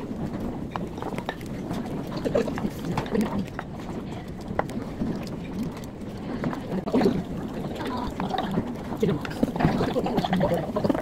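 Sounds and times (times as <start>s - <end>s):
background chatter of voices: 1.0s - 11.0s.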